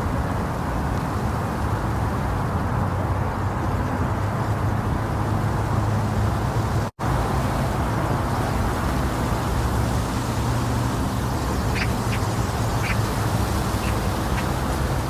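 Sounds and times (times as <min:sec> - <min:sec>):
low rumbling white noise: 0:00.0 - 0:15.0.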